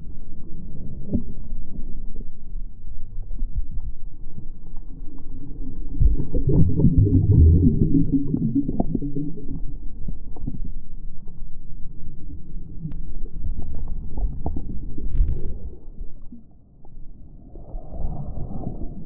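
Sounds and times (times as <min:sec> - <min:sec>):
muffled low rumble: 0:00.0 - 0:19.0.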